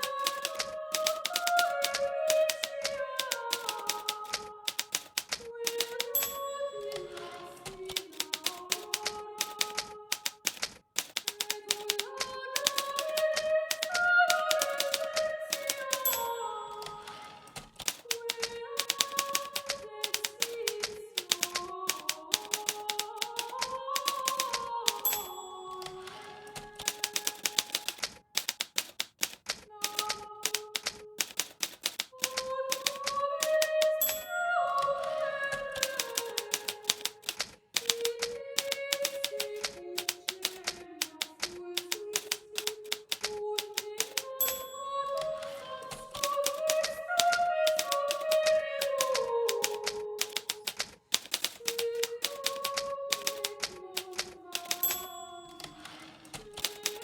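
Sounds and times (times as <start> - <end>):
typewriter key strikes: 0.0 - 57.0.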